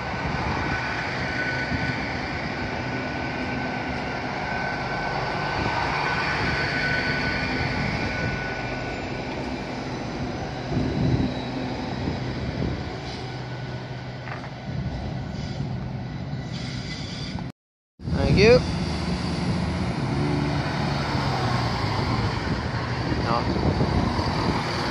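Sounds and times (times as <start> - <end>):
train diesel engine hum: 0.0 - 24.9.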